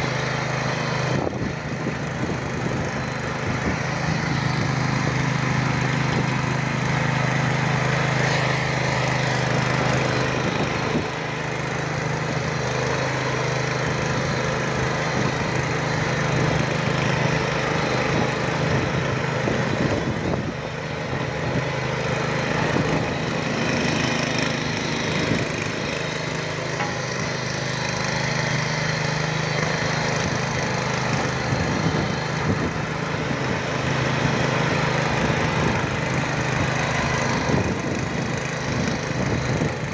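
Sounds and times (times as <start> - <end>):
tiller engine drone: 0.0 - 39.9
tines crackling through soil: 0.0 - 39.9.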